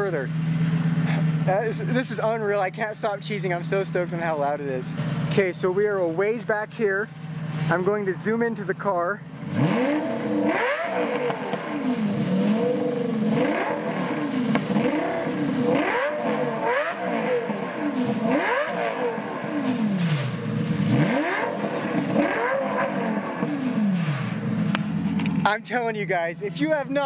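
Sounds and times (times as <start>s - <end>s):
sports car engine revving: 0.0s - 8.4s, 9.2s - 25.5s.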